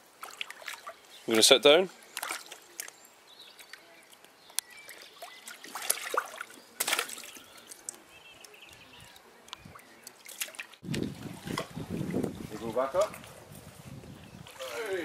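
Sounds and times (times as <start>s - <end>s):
water splashing in paddling pool: 0.0s - 13.5s, 14.3s - 15.0s.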